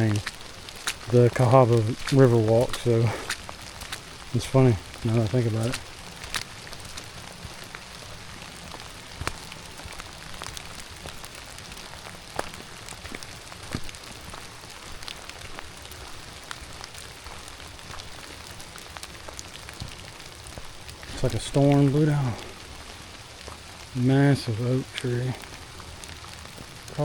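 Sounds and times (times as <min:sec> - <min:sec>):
sharp raindrop ticks: 0:00.0 - 0:27.0
steady rain falling: 0:00.0 - 0:27.0.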